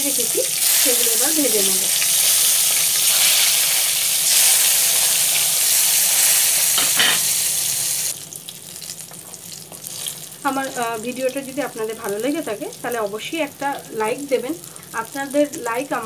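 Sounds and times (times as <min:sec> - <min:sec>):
eggplant frying in oil: 0:00.0 - 0:16.0.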